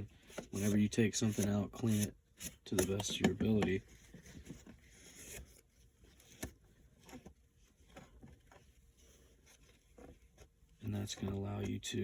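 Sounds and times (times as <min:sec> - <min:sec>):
light rubbing on plastic: 0:00.0 - 0:12.0.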